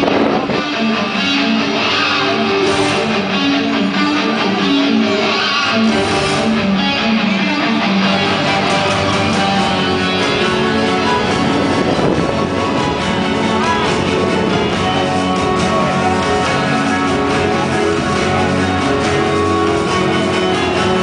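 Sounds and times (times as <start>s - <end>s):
strummed guitar music over loudspeakers: 0.0s - 21.0s.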